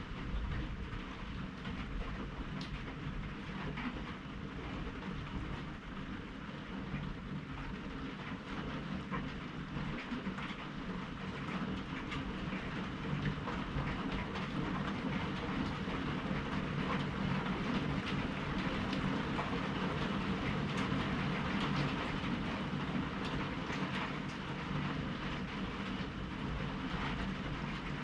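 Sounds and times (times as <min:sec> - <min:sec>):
steady rain rushing: 0:00.0 - 0:28.0
raindrop ticks: 0:00.2 - 0:28.0.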